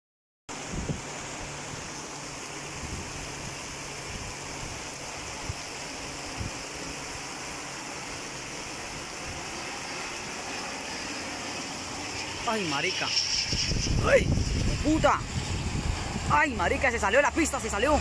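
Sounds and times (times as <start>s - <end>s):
steady rain hiss: 0.5s - 18.0s.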